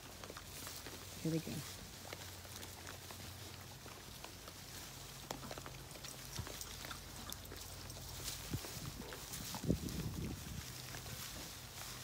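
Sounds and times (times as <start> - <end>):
piglets rustling in bedding: 0.0 - 12.0.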